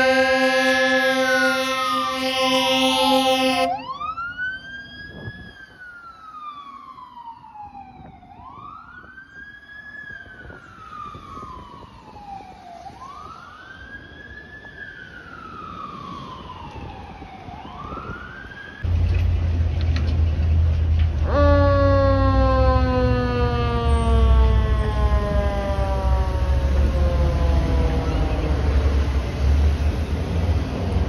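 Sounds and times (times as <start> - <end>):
fire truck siren wailing: 0.0 - 18.9, 21.2 - 31.0.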